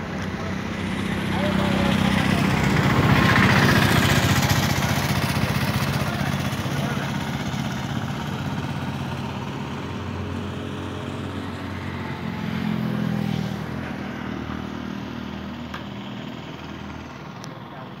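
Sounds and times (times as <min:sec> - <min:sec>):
small tractor engine running: 0:00.0 - 0:18.0.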